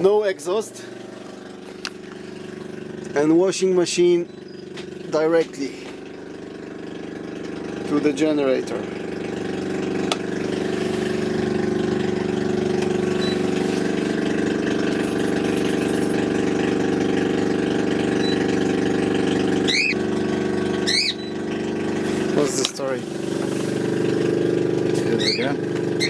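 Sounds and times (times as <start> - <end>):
generator engine humming: 0.0 - 26.0.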